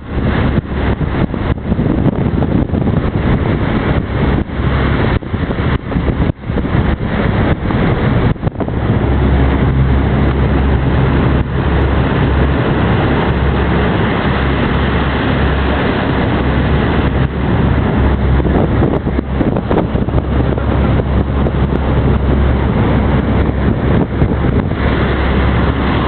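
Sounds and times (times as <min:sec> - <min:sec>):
boat engines droning: 0:00.0 - 0:26.0
rushing noise: 0:00.0 - 0:26.0.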